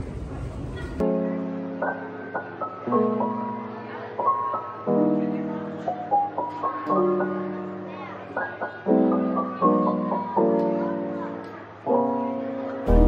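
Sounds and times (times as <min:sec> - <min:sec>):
slow piano chords: 0:01.0 - 0:13.0.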